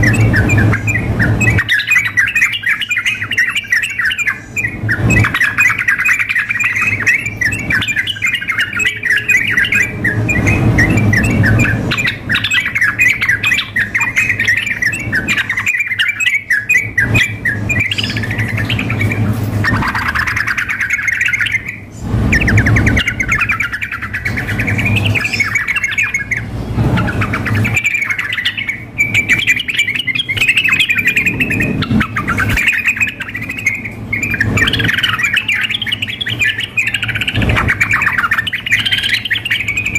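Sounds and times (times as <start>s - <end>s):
bulbuls chattering and singing: 0.0s - 39.9s.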